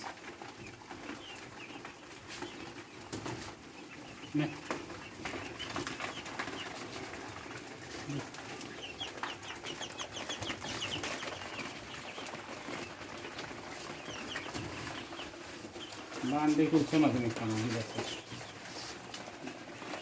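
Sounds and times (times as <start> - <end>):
birds rustling and scratching: 0.0 - 20.0
quails chirping: 0.0 - 20.0.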